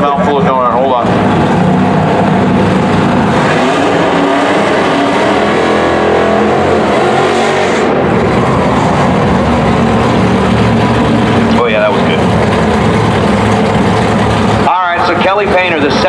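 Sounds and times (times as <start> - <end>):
car engine revving hard: 0.7 - 16.0.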